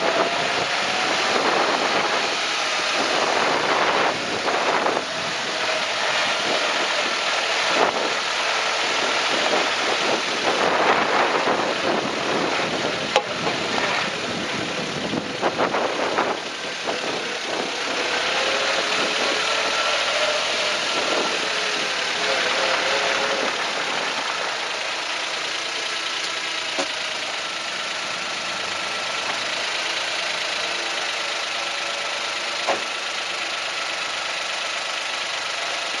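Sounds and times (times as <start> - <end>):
car engine running: 0.0 - 36.0
road and chassis noise: 0.0 - 36.0
suspension clunks: 0.0 - 36.0.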